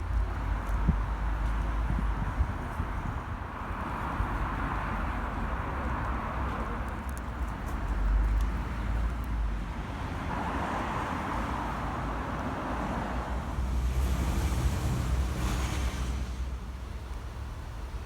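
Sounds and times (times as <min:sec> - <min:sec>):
road traffic hum: 0:00.0 - 0:18.0
wind rumble on microphone: 0:00.0 - 0:18.0.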